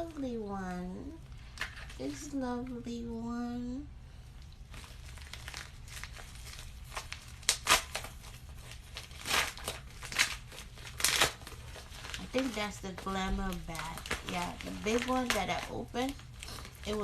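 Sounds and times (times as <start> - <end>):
packaging crinkling: 1.3 - 2.4, 4.4 - 17.0.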